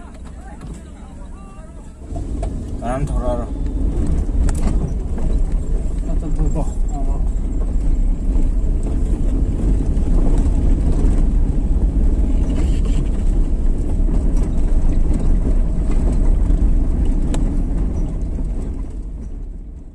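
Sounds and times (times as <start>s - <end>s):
moving vehicle rumble: 0.0s - 19.9s
wind buffeting microphone: 0.0s - 19.9s.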